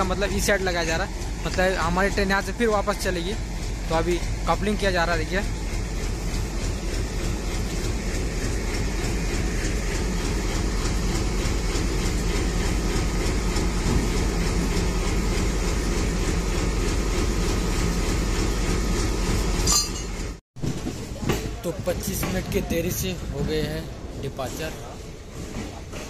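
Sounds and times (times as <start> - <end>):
train rumbling and rattling: 0.0 - 26.0.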